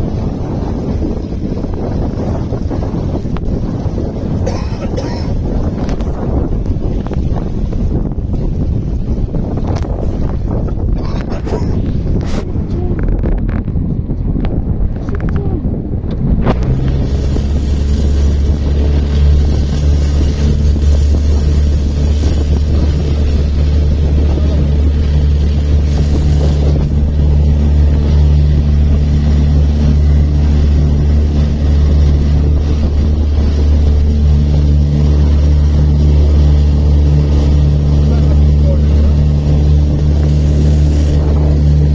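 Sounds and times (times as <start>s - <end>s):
motorboat engine humming: 0.0s - 41.9s
rushing water: 0.0s - 41.9s
rushing wind: 0.0s - 41.9s.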